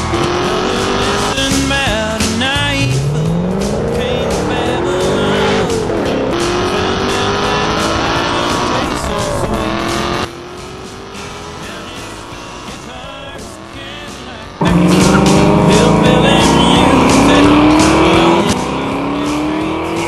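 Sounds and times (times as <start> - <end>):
music: 0.0 - 20.0
race car engine revving: 0.0 - 20.0.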